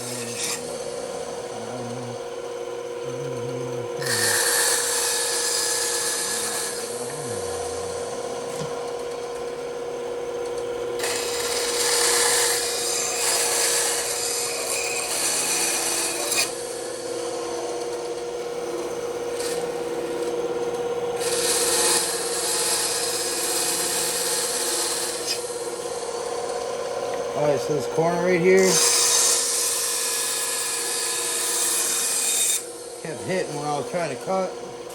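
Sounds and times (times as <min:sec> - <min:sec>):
bandsaw blade cutting wood: 0:00.0 - 0:02.2, 0:03.1 - 0:08.8, 0:11.0 - 0:20.4, 0:21.1 - 0:26.6, 0:27.4 - 0:34.9
bandsaw humming: 0:00.0 - 0:34.9.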